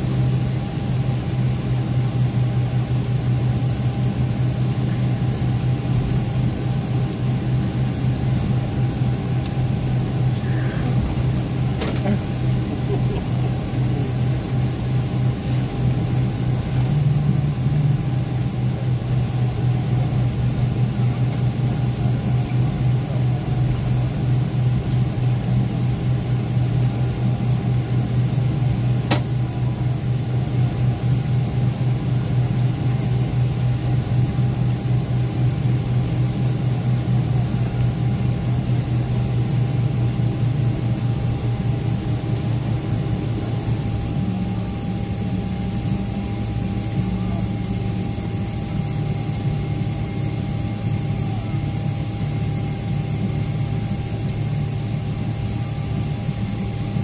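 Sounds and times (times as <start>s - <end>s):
jet engine hum with whine: 0.0s - 57.0s.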